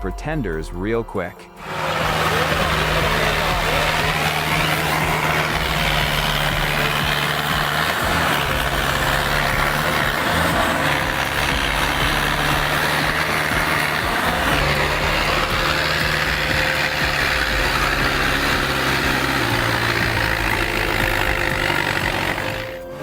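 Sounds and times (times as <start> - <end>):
heavy vehicle engine under load: 1.6 - 23.0.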